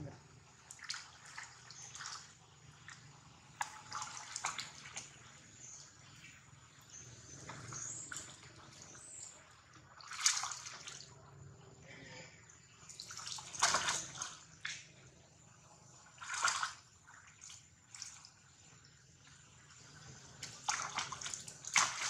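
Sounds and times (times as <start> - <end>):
water splashing: 0.3 - 6.2, 6.9 - 11.2, 12.8 - 15.1, 15.9 - 22.0.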